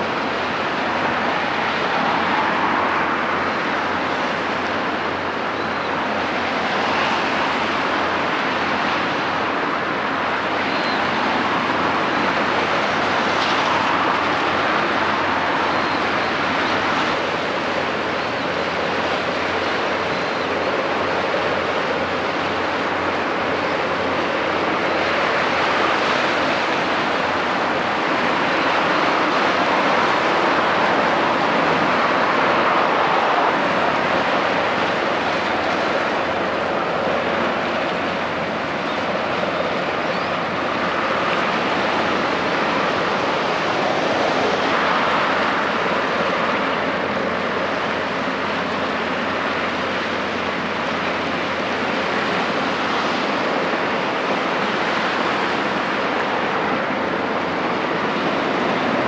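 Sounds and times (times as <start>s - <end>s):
sea waves: 0.0s - 59.0s
wind: 0.0s - 59.0s.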